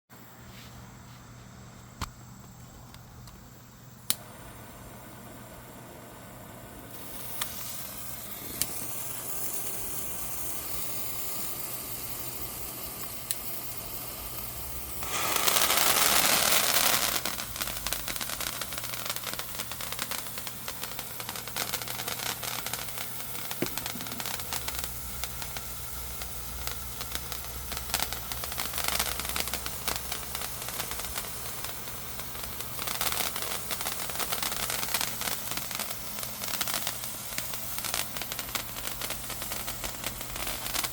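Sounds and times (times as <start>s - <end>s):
firework hissing and crackling: 0.2s - 40.9s.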